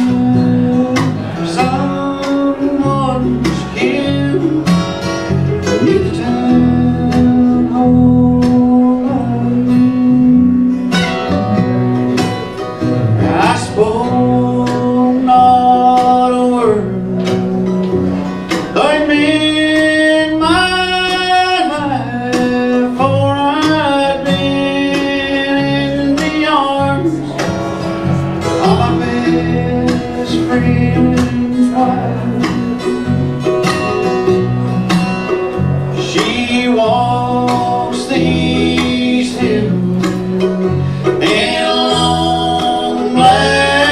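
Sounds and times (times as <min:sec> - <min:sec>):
acoustic guitar strumming: 0:00.0 - 0:43.9
sliding lead melody: 0:00.0 - 0:43.9.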